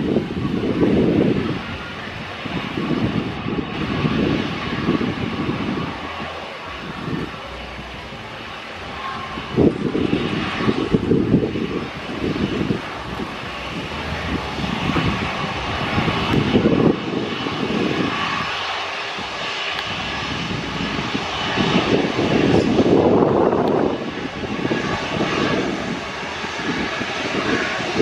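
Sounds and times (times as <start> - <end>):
airliner engines running: 0.0 - 28.0.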